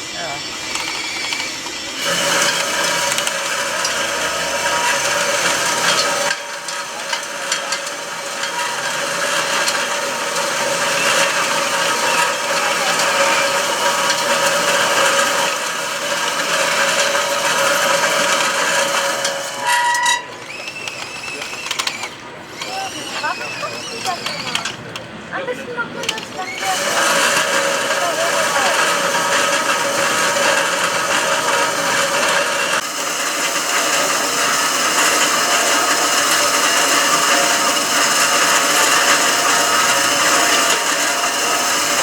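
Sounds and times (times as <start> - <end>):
electric motors whining: 0.0 - 42.0
gears rattling: 0.5 - 25.2, 26.0 - 42.0.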